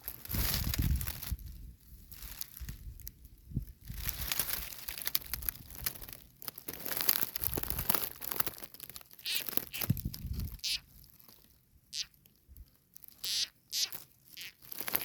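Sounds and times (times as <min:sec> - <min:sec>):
crackling and rustling: 0:00.0 - 0:11.6, 0:13.9 - 0:15.0.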